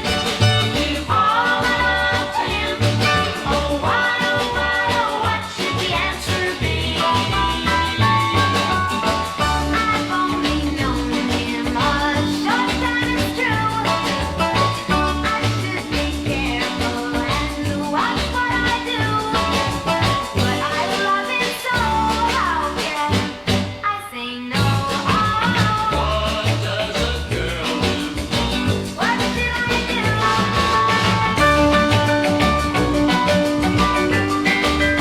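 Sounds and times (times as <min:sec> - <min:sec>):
pop record with drums and bass: 0:00.0 - 0:35.0.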